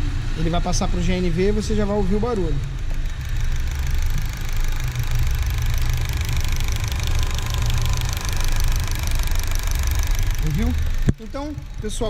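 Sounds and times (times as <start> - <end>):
car engine idling: 0.0 - 12.0
gas injectors ticking clatter: 0.0 - 12.0.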